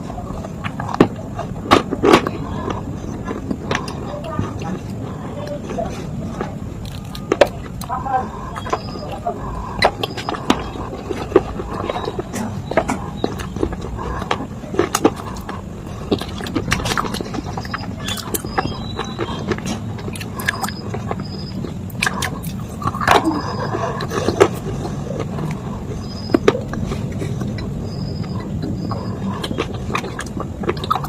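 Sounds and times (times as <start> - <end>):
dry clay crunching and cracking: 0.0 - 31.0
low background rumble: 0.0 - 31.0.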